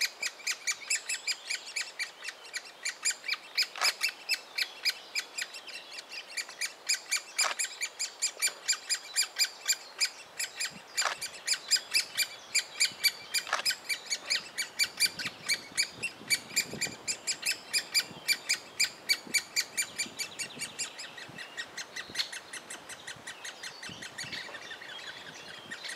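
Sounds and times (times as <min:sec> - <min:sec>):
woodpecker nestlings begging calls: 0:00.0 - 0:25.9.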